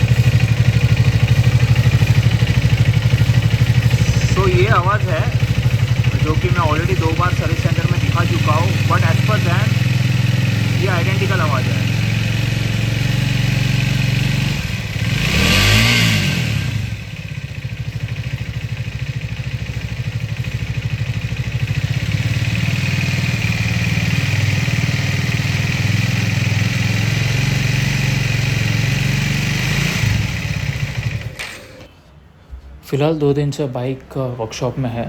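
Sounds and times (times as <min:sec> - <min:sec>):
motorcycle engine idling with ticking: 0:00.0 - 0:31.9.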